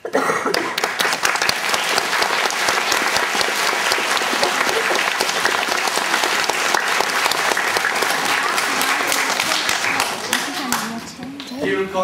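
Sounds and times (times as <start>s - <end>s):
children applauding: 0.4s - 11.5s.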